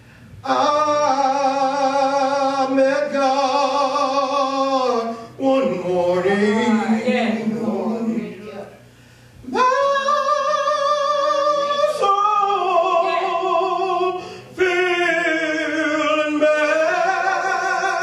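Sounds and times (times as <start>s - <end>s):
man singing with vibrato: 0.0s - 8.6s, 9.4s - 18.0s.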